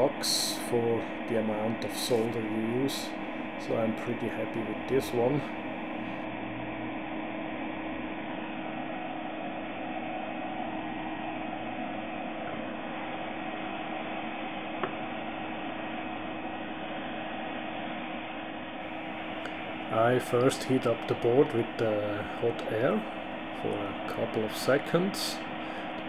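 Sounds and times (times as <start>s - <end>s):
mechanical fan noise: 0.0s - 26.0s.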